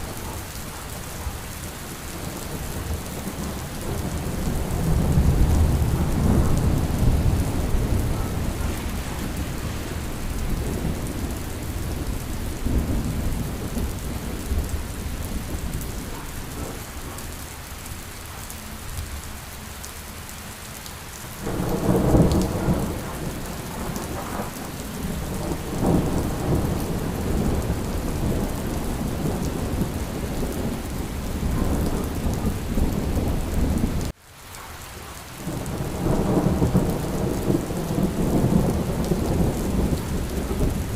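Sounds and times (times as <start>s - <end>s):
rolling thunder: 0.0s - 17.2s, 21.4s - 34.1s, 35.4s - 40.9s
steady rain: 0.0s - 40.9s.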